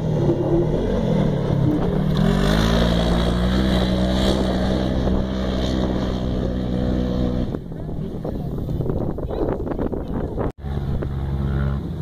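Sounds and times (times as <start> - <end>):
buggy engine accelerating: 0.0 - 12.0.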